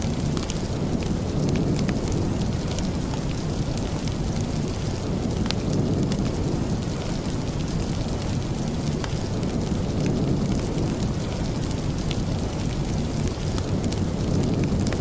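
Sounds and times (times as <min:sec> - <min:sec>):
fireplace crackling: 0:00.0 - 0:15.0
steady rain rushing: 0:00.0 - 0:15.0.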